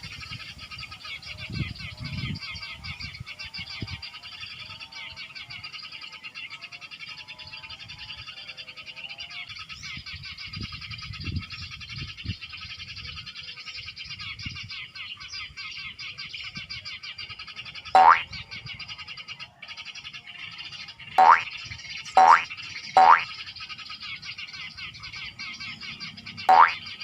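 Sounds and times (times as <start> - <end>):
sparrows chirping from speaker: 0.0 - 27.0.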